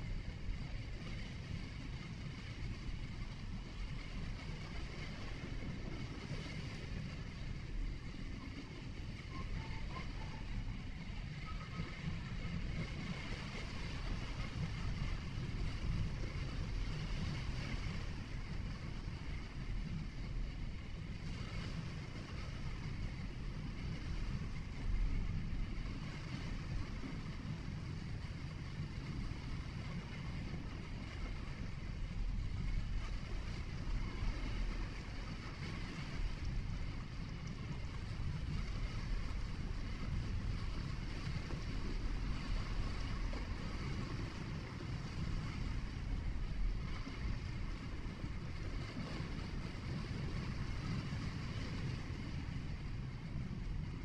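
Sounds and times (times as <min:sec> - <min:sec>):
car tyre and engine rumble: 0:00.0 - 0:54.0
wind: 0:00.0 - 0:54.0.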